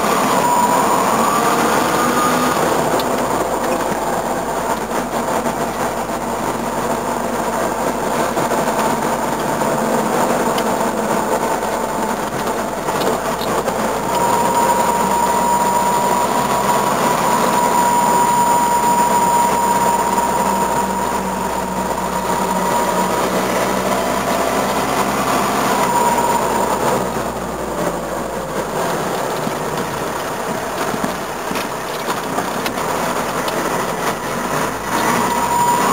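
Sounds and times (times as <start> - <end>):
diesel engine drone: 0.0 - 35.9
high steady whine: 0.0 - 35.9.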